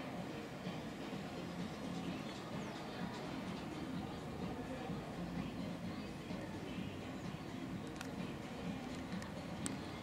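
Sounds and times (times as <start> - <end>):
low background murmur: 0.0 - 10.0.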